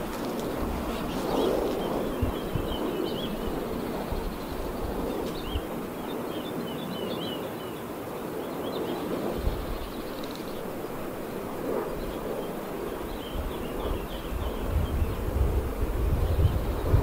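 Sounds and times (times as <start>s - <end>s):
small birds chirping: 0.0s - 15.5s
wind turbines rushing: 0.0s - 17.0s.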